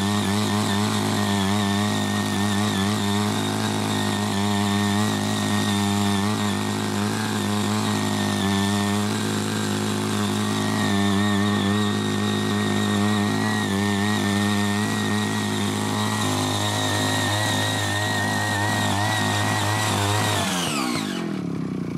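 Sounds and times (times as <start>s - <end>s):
small petrol engine running: 0.0s - 21.9s
tines churning soil: 0.0s - 21.9s.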